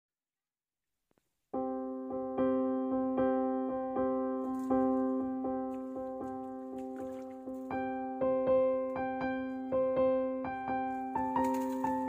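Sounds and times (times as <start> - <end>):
slow piano music: 1.6 - 12.0.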